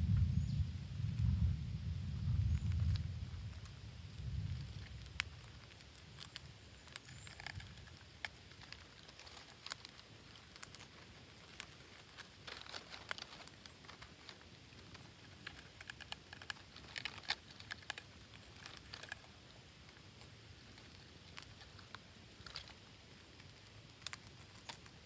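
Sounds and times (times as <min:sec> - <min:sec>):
birds rustling on dry leaves: 0:01.1 - 0:25.0.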